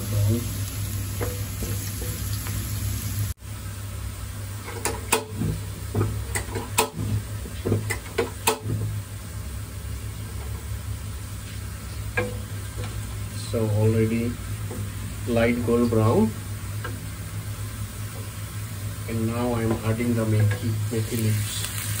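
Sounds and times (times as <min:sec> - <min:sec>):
garlic sizzling in hot oil: 0:00.0 - 0:22.0.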